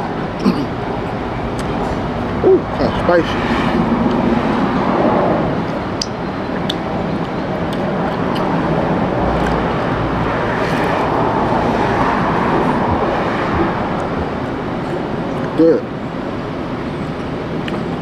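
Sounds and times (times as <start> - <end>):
road vehicle rumble: 0.0 - 18.0.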